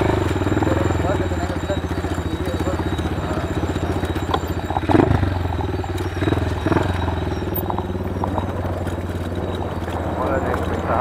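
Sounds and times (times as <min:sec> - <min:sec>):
knocks and rattles: 0:00.0 - 0:11.0
small motorcycle engine running: 0:00.0 - 0:11.0.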